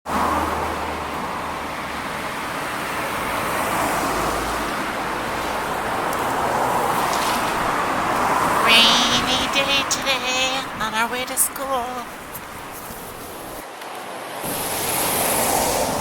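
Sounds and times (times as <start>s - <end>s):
car tyres on wet road: 0.0s - 16.0s.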